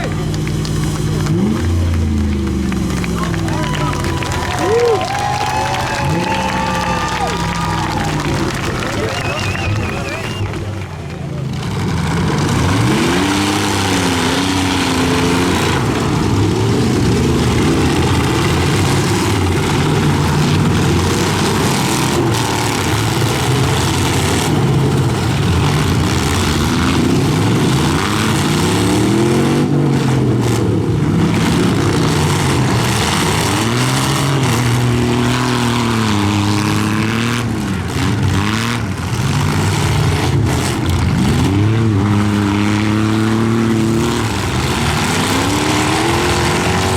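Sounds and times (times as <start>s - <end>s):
pickup truck engines revving: 0.0s - 46.9s.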